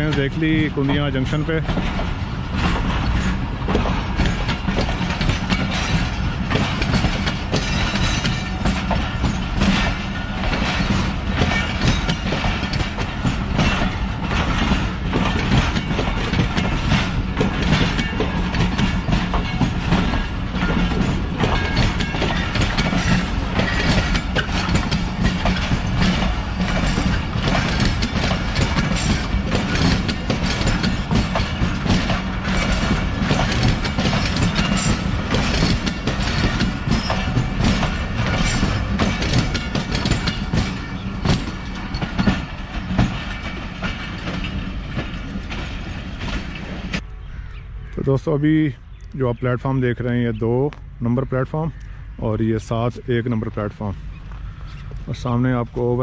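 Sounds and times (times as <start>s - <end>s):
train wheels clacking over rails: 0.0s - 48.0s.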